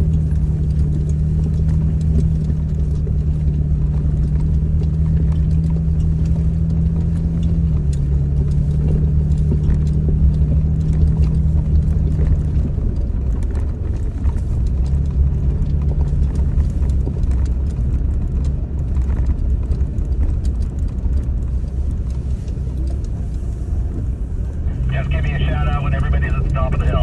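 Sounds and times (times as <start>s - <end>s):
small clicks and rattles: 0.0s - 24.6s
engine and tyre drone: 0.0s - 27.0s.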